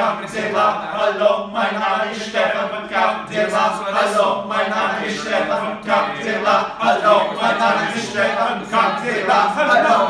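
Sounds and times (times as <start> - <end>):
men singing a chant: 0.0 - 10.0.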